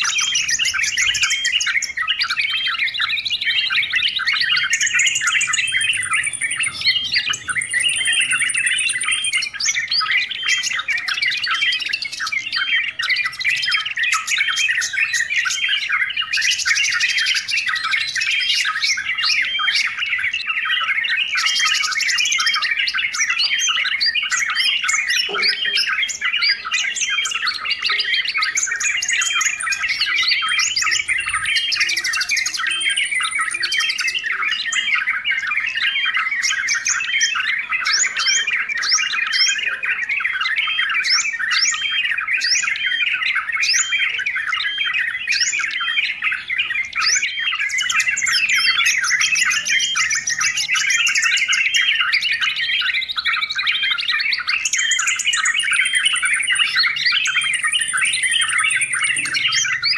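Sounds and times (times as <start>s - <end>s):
bulbuls chirping and chattering: 0.0s - 59.9s.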